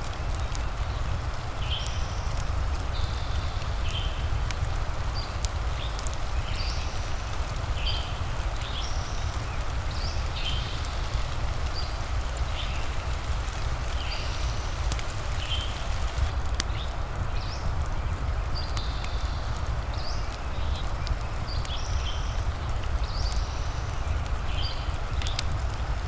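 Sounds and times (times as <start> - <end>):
fireplace crackling: 0.0 - 26.0
steady rain: 0.0 - 26.0.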